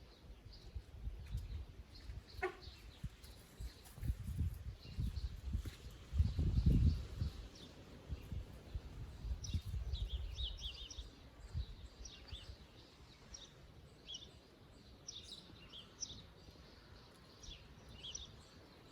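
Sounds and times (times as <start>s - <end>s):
songbirds chirping and trilling: 0.0s - 18.9s.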